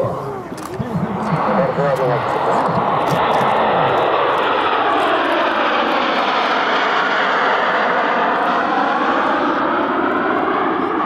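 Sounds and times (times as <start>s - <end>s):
jet aircraft flying past: 0.0s - 11.0s.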